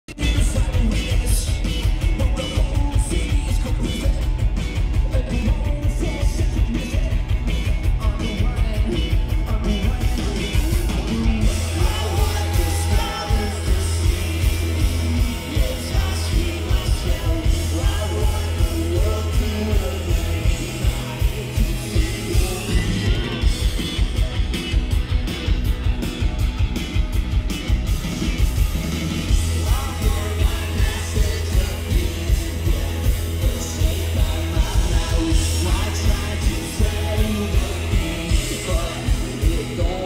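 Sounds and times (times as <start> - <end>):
live rock band: 0.1 - 40.0.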